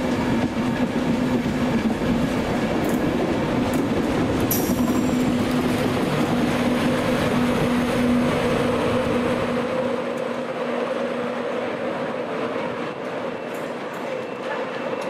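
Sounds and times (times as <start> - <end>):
train hum: 0.0 - 15.0
train wheel and running noise: 0.0 - 15.0.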